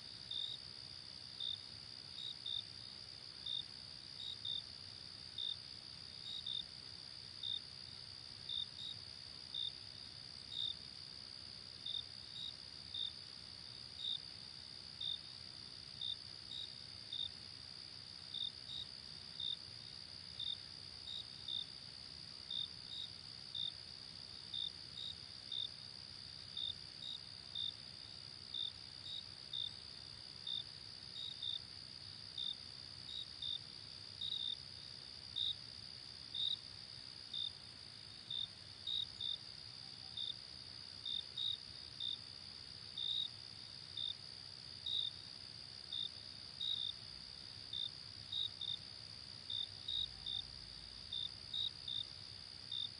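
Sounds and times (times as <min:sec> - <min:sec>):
sharp cricket chirps: 0:00.0 - 0:52.9.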